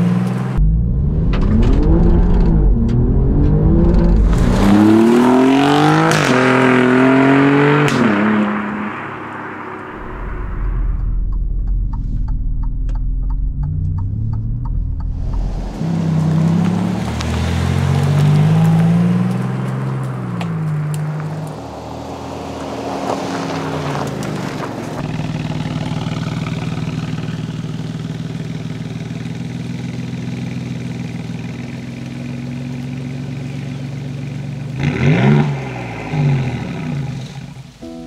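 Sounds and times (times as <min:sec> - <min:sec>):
car engine idling and revving: 0:00.0 - 0:37.8.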